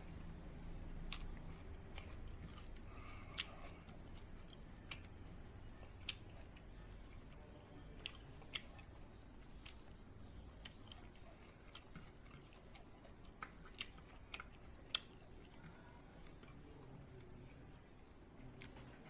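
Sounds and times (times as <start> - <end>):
chewing clicks and smacks: 0.1 - 19.0.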